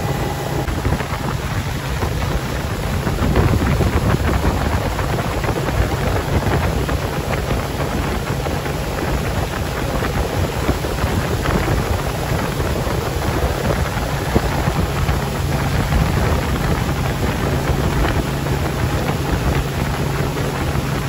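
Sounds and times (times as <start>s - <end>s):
boat engine hum: 0.0s - 21.0s
water rushing past hull: 0.0s - 21.0s
wind buffeting microphone: 0.0s - 21.0s.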